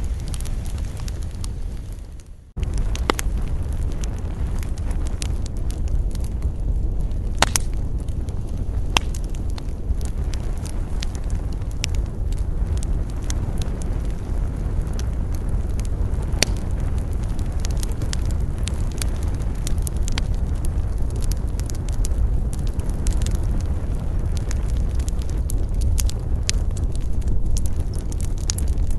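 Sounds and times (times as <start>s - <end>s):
low rushing of flames: 0.0s - 28.9s
wood crackling and popping: 0.0s - 28.9s.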